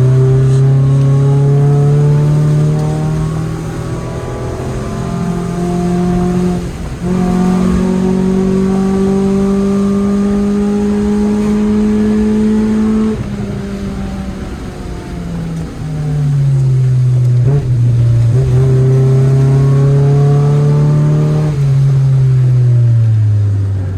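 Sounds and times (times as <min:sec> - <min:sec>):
car engine under load: 0:00.0 - 0:23.9.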